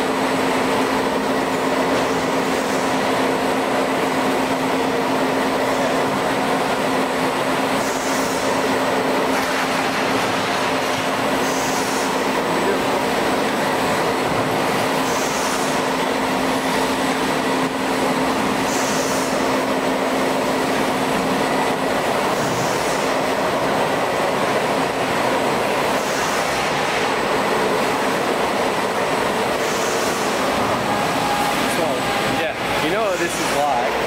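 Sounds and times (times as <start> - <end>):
conveyor machinery running: 0.0 - 34.0.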